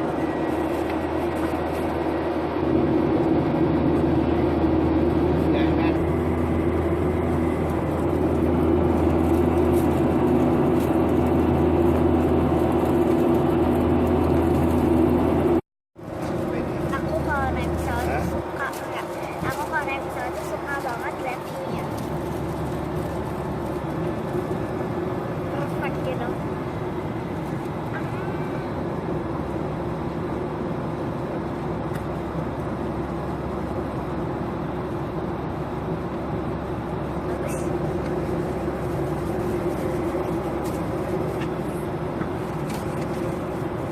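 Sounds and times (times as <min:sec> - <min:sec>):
airliner engine and airflow drone: 0:00.0 - 0:43.9.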